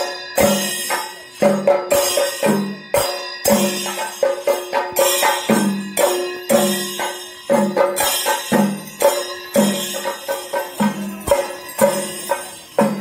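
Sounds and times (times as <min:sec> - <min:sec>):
drums beaten in driving rhythm: 0:00.0 - 0:13.0
hand cymbals clashing: 0:00.0 - 0:13.0.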